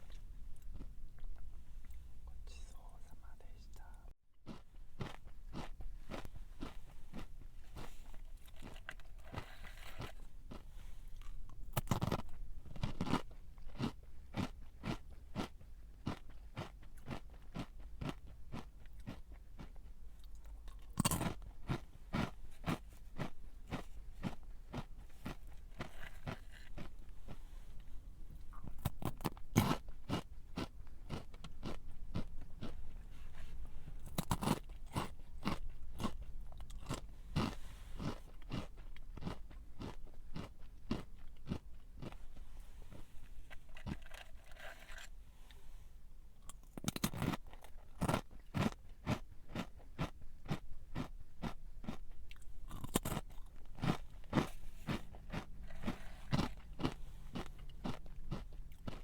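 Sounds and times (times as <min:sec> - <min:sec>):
person chewing crunchy snack: 0:00.0 - 0:45.6, 0:46.4 - 0:59.0.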